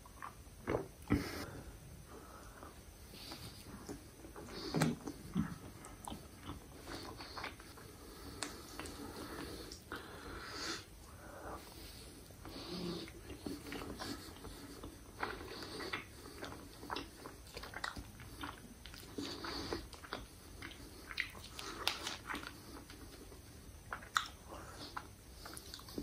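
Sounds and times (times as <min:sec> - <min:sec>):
chewing with wet mouth clicks: 0:00.0 - 0:01.2, 0:03.2 - 0:10.0, 0:13.1 - 0:26.0.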